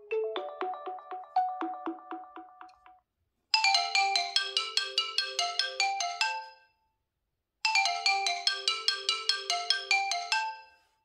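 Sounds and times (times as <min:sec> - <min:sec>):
marimba-like ringtone melody: 0:00.0 - 0:03.0, 0:03.6 - 0:06.6, 0:07.7 - 0:10.8.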